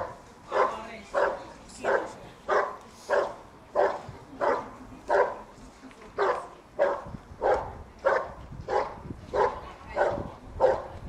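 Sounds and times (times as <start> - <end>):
dog barking rhythmically: 0.5 - 5.4, 6.2 - 10.9.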